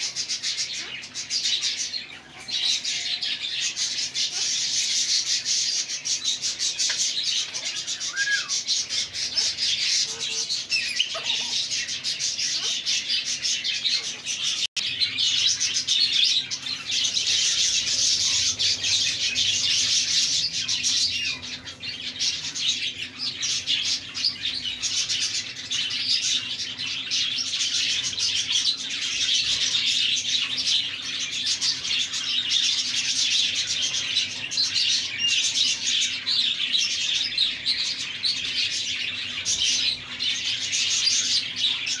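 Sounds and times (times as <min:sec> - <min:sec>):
flock of birds chirping: 0:00.0 - 0:42.0.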